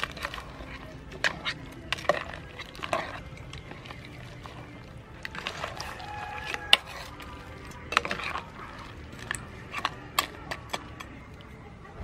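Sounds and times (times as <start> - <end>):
ladle clinking against metal pot: 0.0 - 11.2.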